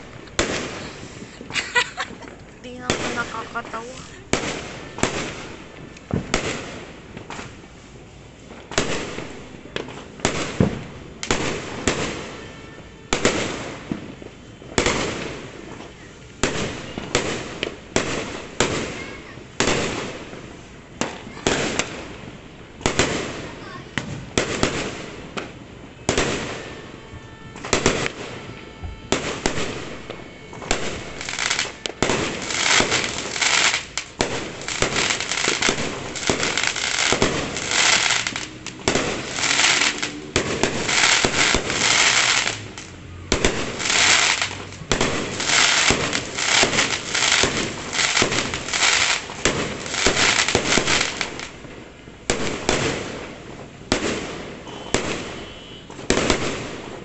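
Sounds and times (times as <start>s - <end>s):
fireworks bangs and pops: 0.0s - 57.0s
fireworks crackling: 0.0s - 57.0s.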